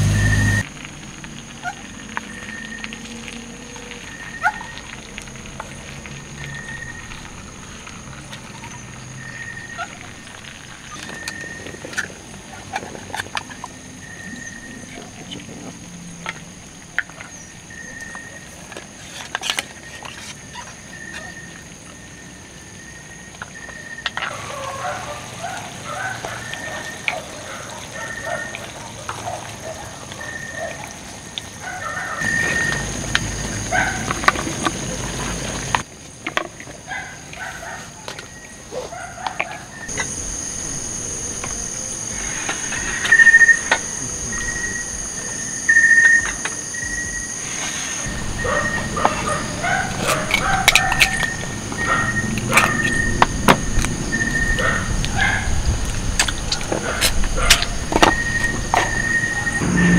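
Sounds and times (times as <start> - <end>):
night insects droning: 0.0 - 59.9.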